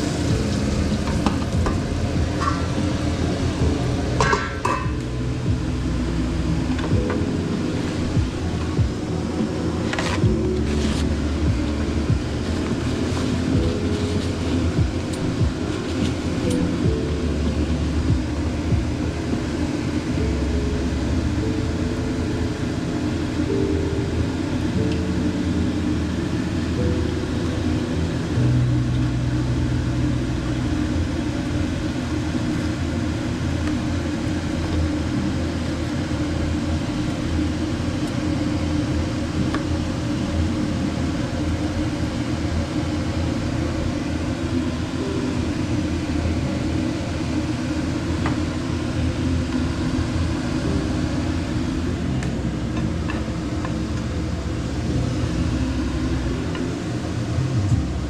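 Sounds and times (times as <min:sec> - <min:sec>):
low rumble and hum: 0:00.0 - 0:58.0.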